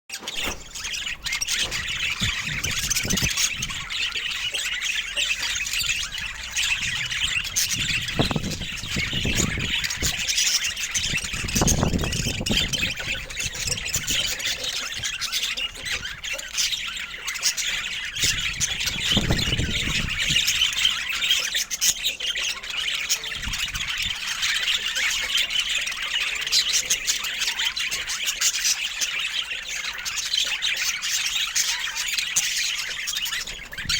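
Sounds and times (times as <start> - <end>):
budgerigars chattering and squawking: 0.2 - 33.9.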